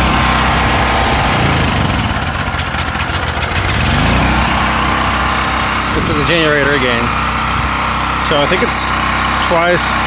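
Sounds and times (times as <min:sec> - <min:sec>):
portable generator running: 0:00.0 - 0:10.0.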